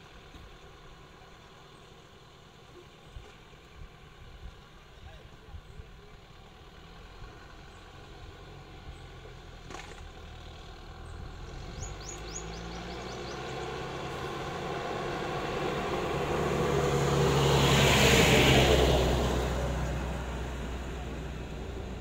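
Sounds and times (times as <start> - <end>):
bus engine: 0.0 - 22.0.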